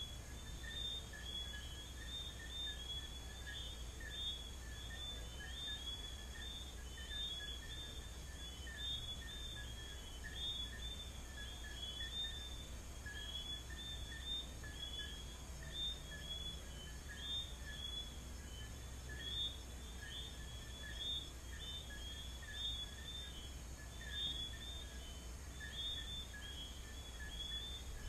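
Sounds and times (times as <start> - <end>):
crickets chirring: 0.0 - 28.0
frogs whistling: 0.0 - 28.0.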